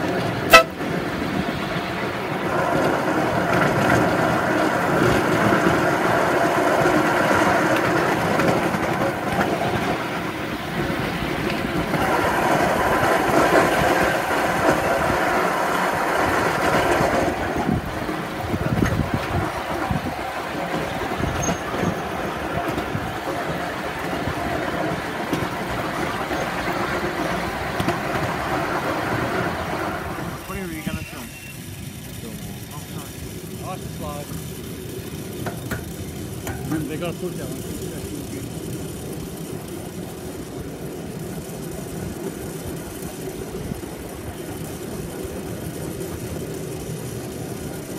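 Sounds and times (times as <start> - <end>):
miniature train engine drone: 0.0 - 47.9
wheels rumbling on rails: 0.0 - 47.9.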